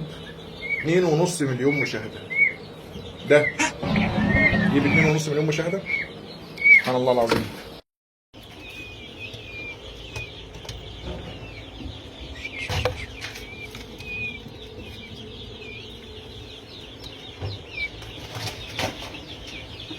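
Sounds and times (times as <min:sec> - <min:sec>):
chicks peeping: 0:00.0 - 0:07.8, 0:08.4 - 0:19.9.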